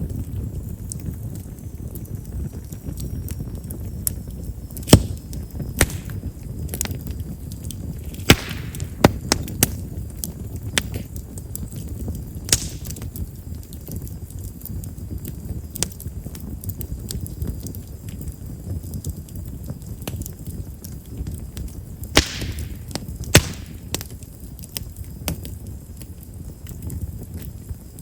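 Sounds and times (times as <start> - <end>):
fire low rumble: 0.0 - 28.0
firewood crackling and popping: 0.0 - 28.0.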